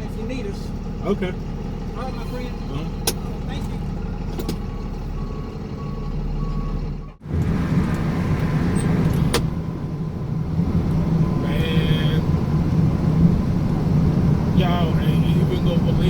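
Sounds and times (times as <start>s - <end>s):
truck engine rumble: 0.0s - 16.0s.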